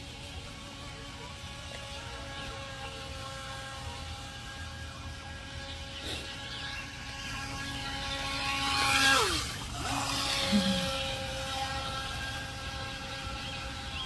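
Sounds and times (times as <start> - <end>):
rc boat motor whining: 0.0 - 14.0.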